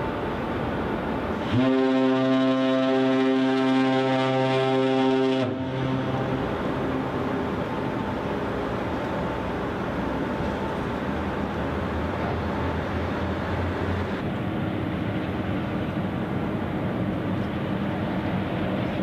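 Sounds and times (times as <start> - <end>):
low rumble of ship engines: 0.0 - 19.0.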